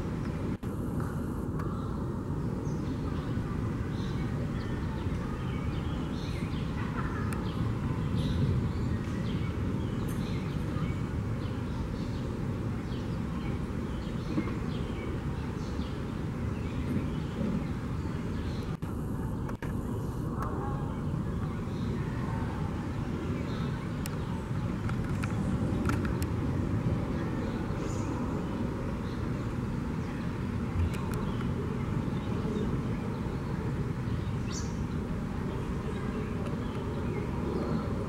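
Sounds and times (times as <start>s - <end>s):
steady low rumble: 0.0s - 38.0s.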